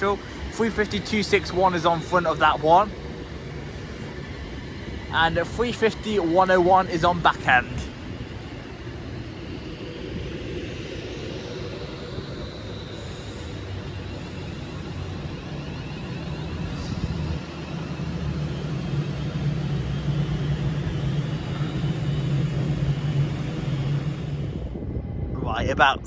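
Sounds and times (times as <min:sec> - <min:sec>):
electric train hum: 0:00.0 - 0:26.0
faint high whine: 0:00.0 - 0:26.0.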